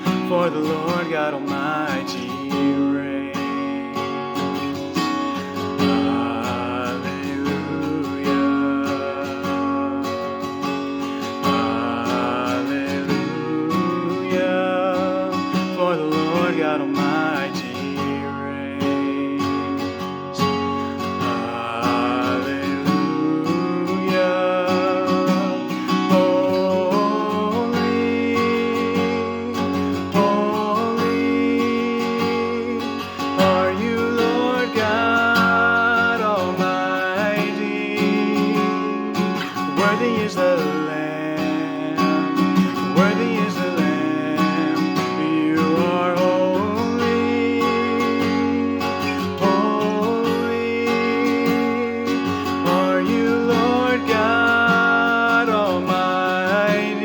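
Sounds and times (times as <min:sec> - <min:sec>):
acoustic guitar strumming chords: 0:00.0 - 0:57.0
person singing worship song: 0:00.0 - 0:57.0.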